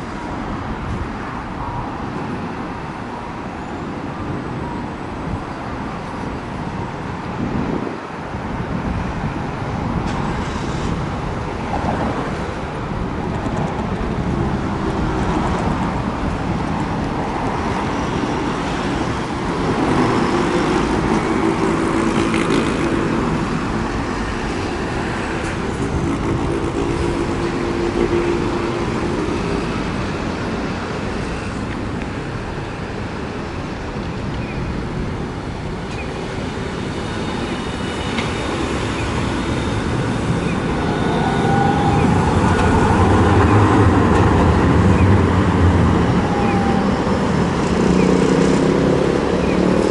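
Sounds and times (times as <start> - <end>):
cars passing: 0.0 - 49.9
steady engine drone: 0.0 - 49.9.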